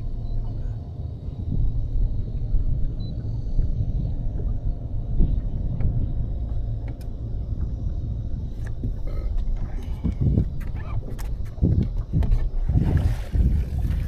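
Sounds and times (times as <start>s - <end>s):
boat motor rumbling: 0.0s - 14.0s.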